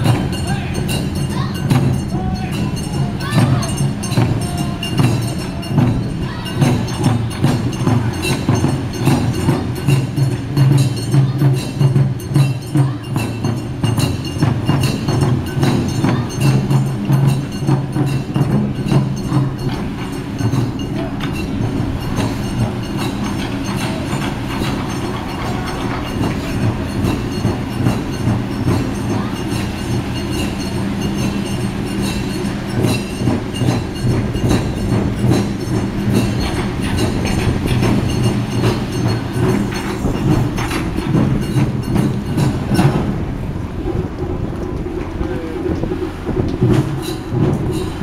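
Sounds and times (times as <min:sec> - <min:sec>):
ship engines low hum: 0:00.0 - 0:48.0.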